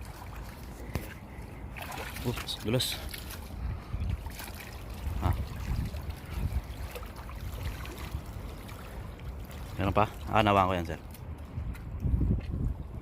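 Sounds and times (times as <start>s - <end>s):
sea water sloshing at shore: 0.0s - 11.3s
wind rumbling on microphone: 0.0s - 13.0s.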